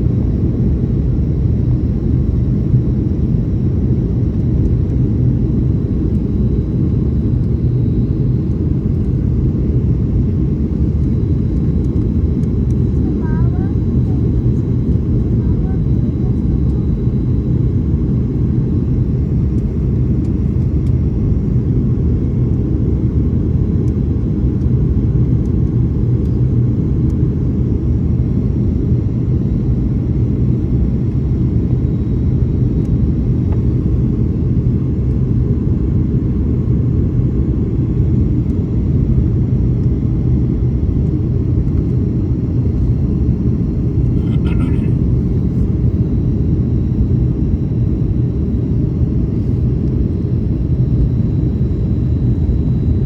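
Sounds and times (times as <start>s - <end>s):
airplane cabin engine rumble: 0.0s - 53.0s
faint high whine: 0.0s - 53.0s.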